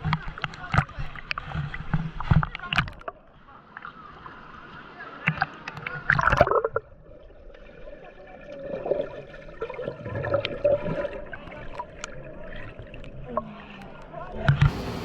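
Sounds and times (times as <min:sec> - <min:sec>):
pool water sloshing and splashing: 0:00.0 - 0:15.0.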